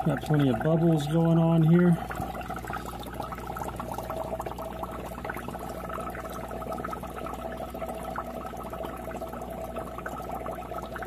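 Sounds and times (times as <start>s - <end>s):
air bubbling through water: 0.0s - 11.0s
steady hum: 0.0s - 11.0s.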